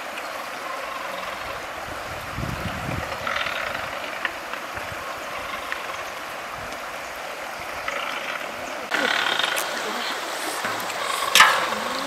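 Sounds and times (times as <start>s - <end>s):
water rushing over stones: 0.0s - 12.0s.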